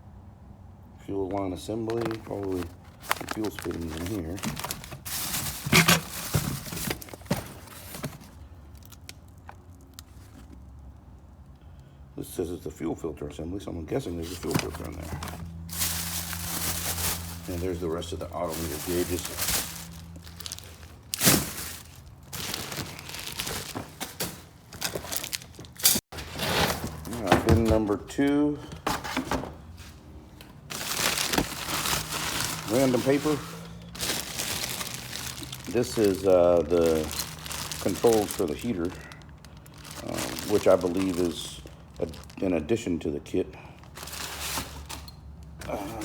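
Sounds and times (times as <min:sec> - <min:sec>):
plastic bag rustling: 0:01.6 - 0:10.6, 0:14.0 - 0:42.5, 0:43.8 - 0:46.0.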